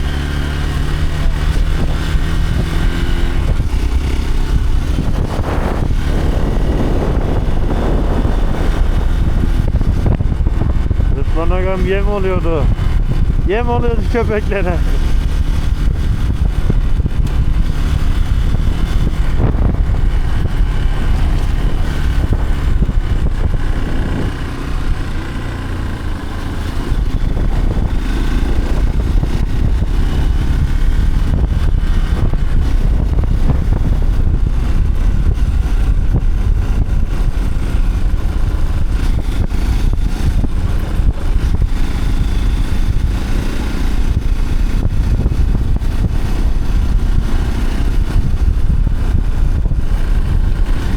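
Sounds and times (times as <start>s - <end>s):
vehicle engine rumbling: 0.0s - 50.9s.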